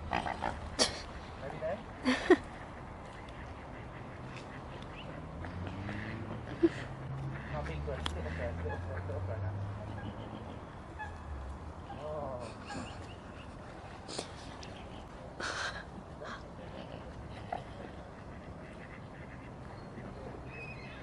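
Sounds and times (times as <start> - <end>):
outdoor background noise: 0.0 - 21.0
waterfowl calling: 2.0 - 16.4, 17.6 - 21.0.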